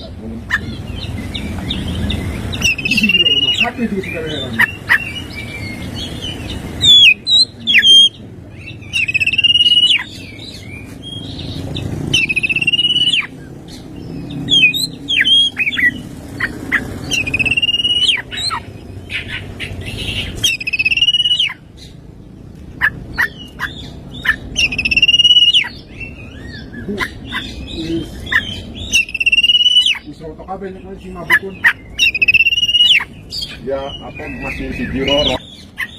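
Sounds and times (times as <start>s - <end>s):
magpie-robin singing: 0.0s - 35.9s.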